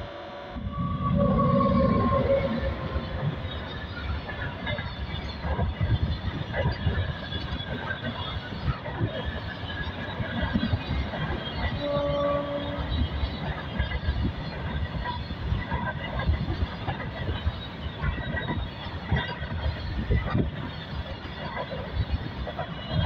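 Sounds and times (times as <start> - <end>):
freight train passing: 0.0 - 23.0
steel wheels clattering on rails: 0.8 - 23.0.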